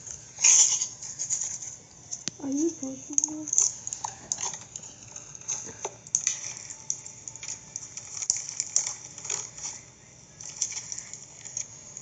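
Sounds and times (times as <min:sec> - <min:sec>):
slime clicking and crackling: 0:00.4 - 0:12.0.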